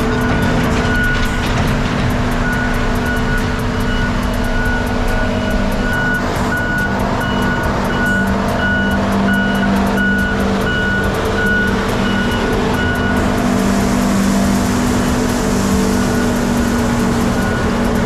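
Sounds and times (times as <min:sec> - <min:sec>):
backup alarm beeping: 0:00.0 - 0:14.4, 0:16.0 - 0:18.0
diesel engine running: 0:00.0 - 0:18.0.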